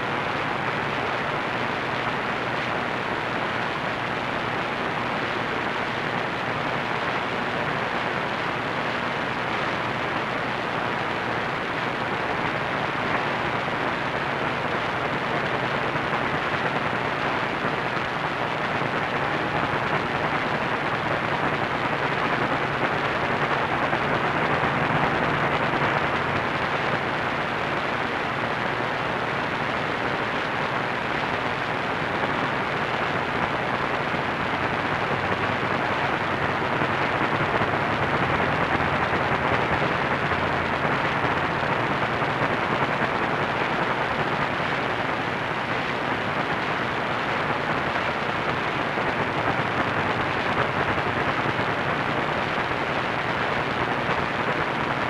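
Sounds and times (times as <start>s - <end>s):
radio static hiss: 0.0s - 55.0s.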